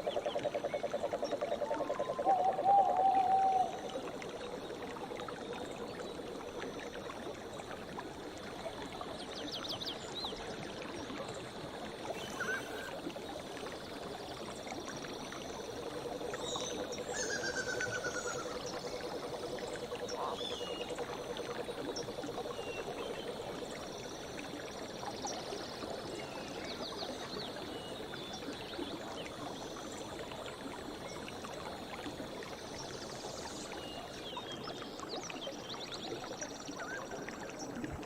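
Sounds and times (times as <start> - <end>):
stream running: 0.0 - 38.0.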